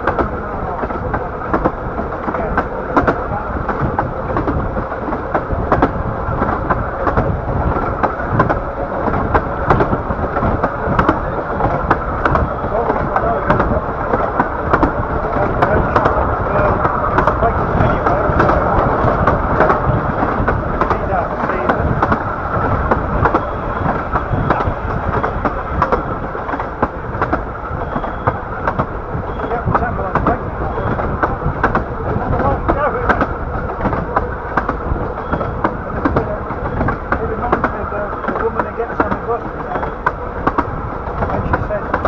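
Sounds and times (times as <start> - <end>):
railway coach rumbling: 0.0 - 42.0
wheels clicking on rails: 0.0 - 42.0.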